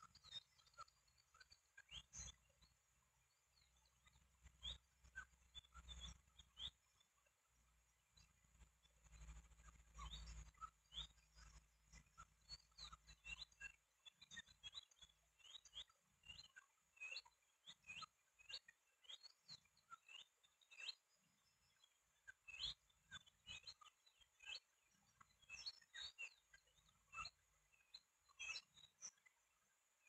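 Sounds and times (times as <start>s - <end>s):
faint high bird chirps: 0.0s - 30.0s.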